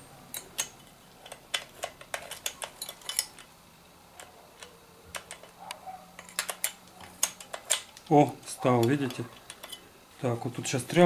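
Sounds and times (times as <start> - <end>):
steel spanner clicking on metal: 0.3 - 3.6, 4.2 - 9.9.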